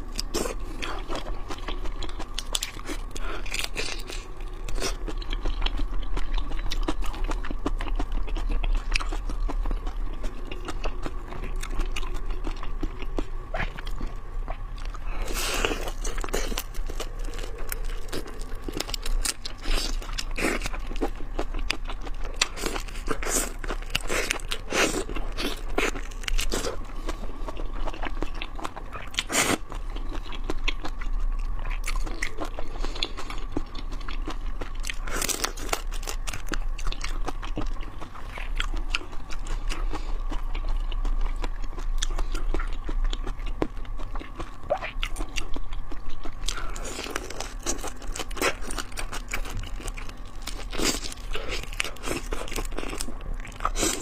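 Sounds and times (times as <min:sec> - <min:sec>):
steady low hum: 0:00.0 - 0:54.0
wet chewing and crunching: 0:00.0 - 0:54.0.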